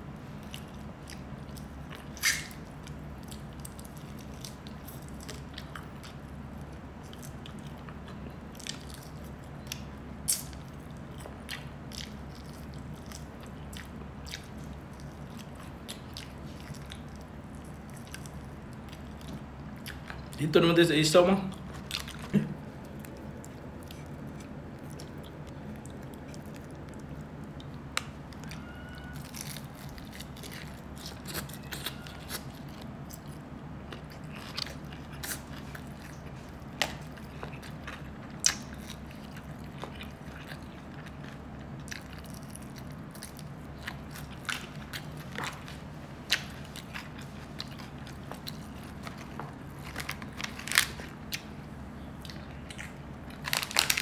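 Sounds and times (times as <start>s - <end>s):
chewing with crunches: 0.0s - 54.0s.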